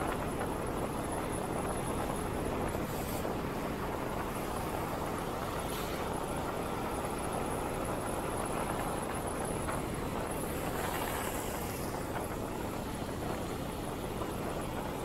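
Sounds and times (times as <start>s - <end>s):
motorcycle wind and road noise: 0.0s - 15.0s
wind buffeting microphone: 0.0s - 15.0s.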